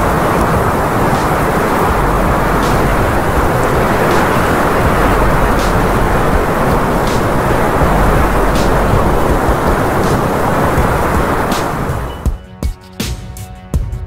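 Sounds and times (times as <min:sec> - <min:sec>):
wind blowing across microphone: 0:00.0 - 0:12.4.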